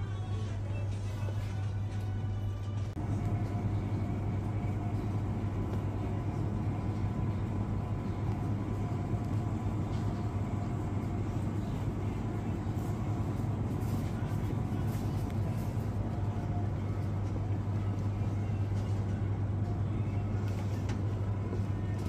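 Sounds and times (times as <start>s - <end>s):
refrigerator electrical hum: 0.0s - 22.0s
faint high whine: 3.0s - 22.0s.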